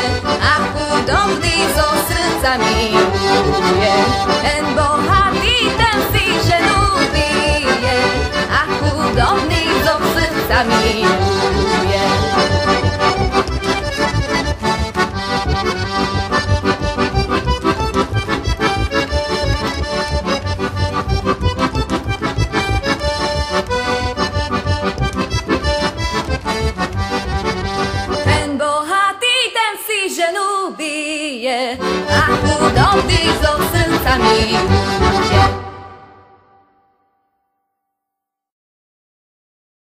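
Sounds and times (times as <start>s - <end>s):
button accordion folk melody: 0.0s - 29.6s, 31.7s - 36.9s.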